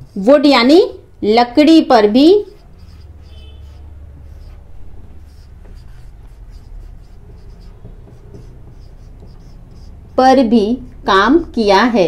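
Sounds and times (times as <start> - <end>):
marker squeaking on whiteboard: 0.0 - 1.0, 2.0 - 11.1.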